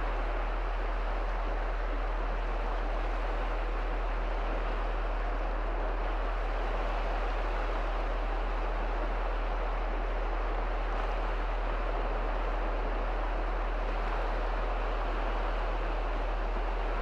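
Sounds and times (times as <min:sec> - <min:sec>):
waves washing through shallow water: 0:00.0 - 0:17.0.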